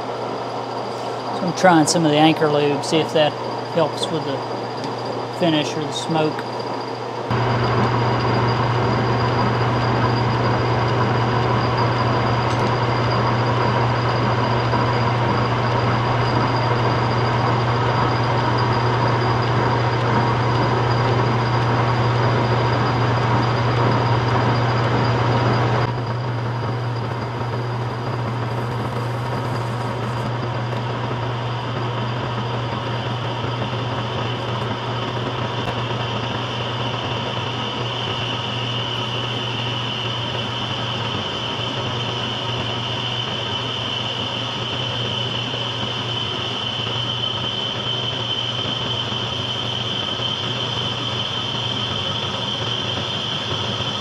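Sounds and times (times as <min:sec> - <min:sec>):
lathe motor hum: 0:00.0 - 0:54.0.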